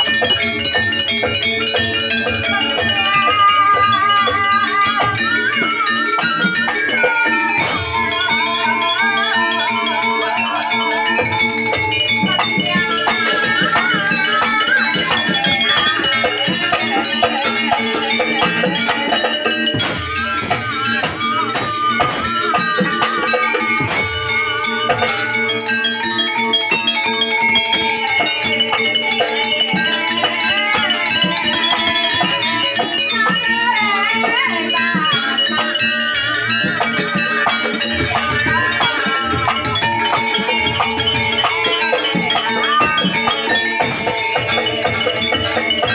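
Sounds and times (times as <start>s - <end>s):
ringing metallic percussion: 0.0s - 45.9s
wavering high melody: 0.0s - 45.9s.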